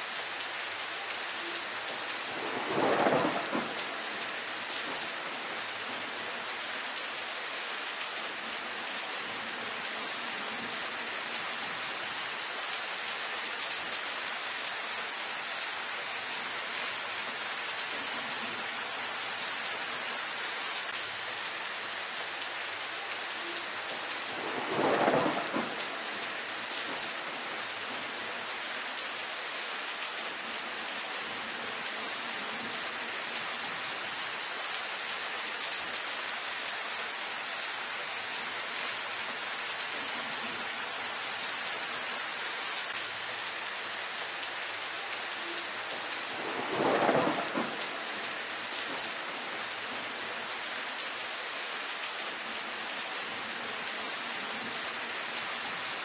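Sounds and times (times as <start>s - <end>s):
rain falling on foliage: 0.0s - 56.0s.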